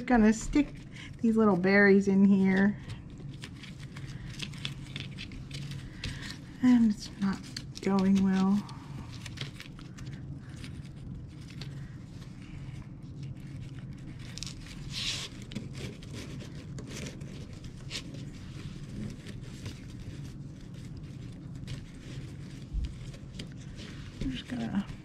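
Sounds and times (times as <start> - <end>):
dry twigs rustling and scratching: 0.0 - 25.0
steady low hum: 0.0 - 25.0.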